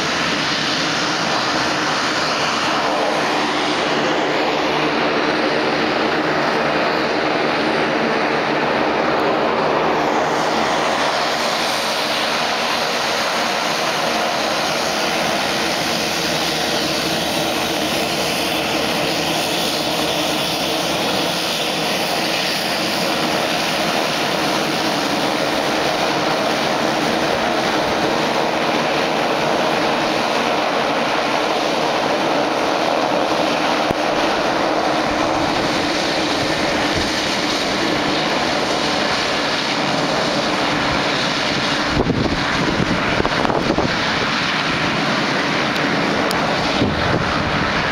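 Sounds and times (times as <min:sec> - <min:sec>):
jet engines idling: 0:00.0 - 0:47.9
turboprop plane taxiing past: 0:00.0 - 0:47.9.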